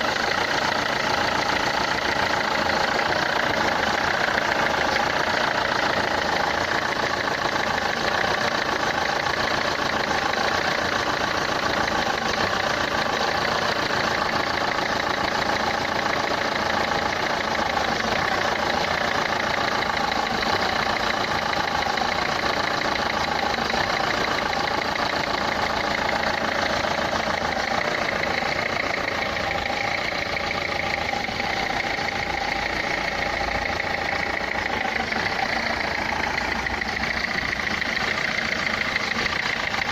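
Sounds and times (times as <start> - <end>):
diesel engine idling: 0.0 - 39.9
fast ticking knock: 0.0 - 39.9.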